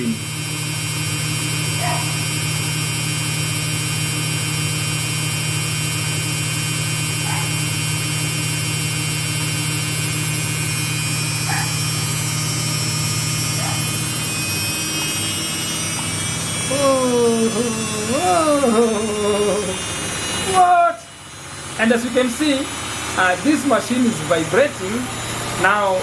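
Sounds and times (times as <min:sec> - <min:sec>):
high motor whine: 0:00.0 - 0:26.0
washing machine spinning: 0:00.0 - 0:26.0.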